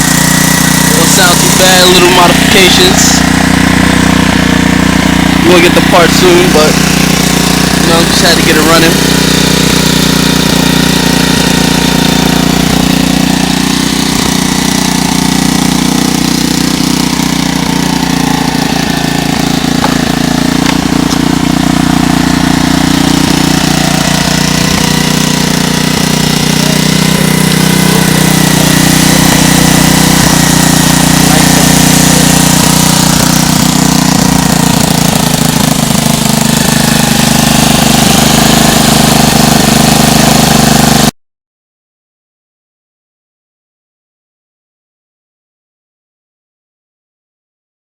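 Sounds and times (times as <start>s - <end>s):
motorbike engine idling: 0.0s - 41.1s.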